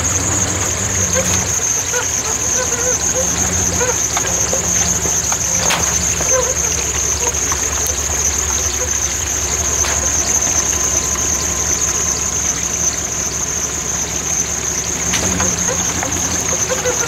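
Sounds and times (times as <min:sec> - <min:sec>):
engine running at low revs: 0:00.0 - 0:17.0
water trickling: 0:00.0 - 0:17.0.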